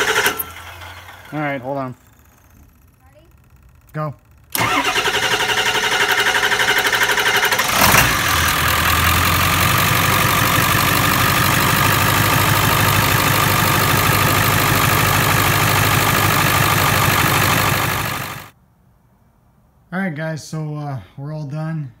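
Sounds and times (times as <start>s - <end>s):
diesel engine cranking and idling: 0.0s - 18.6s.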